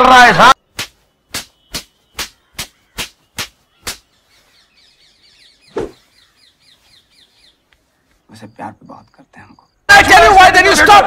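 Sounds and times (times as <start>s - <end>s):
faint birds chirping: 0.6s - 10.7s.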